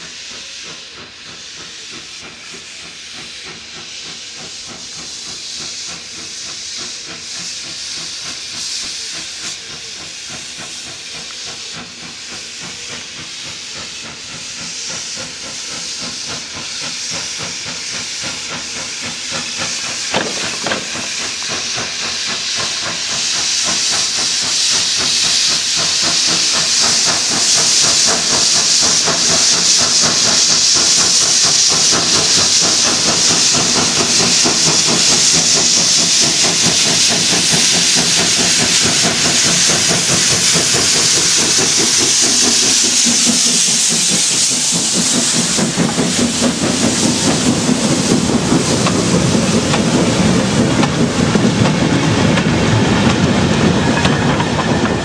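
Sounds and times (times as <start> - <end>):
locomotive exhaust beat: 0.0 - 55.0
steam hissing from locomotive: 0.0 - 55.0
train rumbling and clattering past: 0.0 - 55.0.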